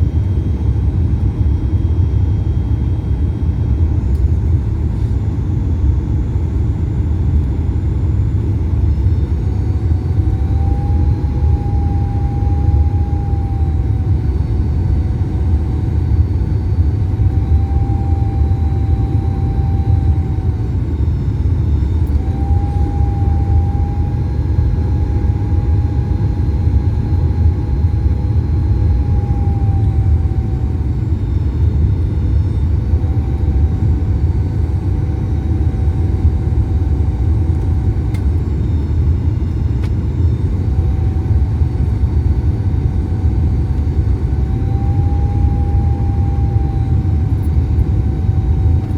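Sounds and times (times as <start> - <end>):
aircraft cabin engine rumble: 0.0 - 48.9
faint whine: 0.0 - 48.9.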